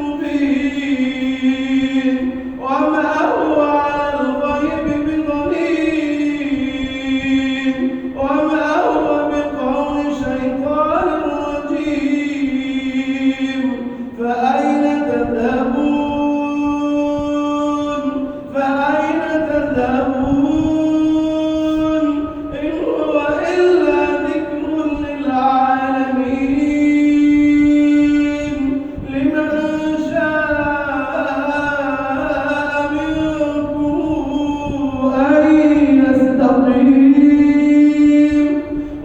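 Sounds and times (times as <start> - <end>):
man chanting recitation: 0.0 - 39.0.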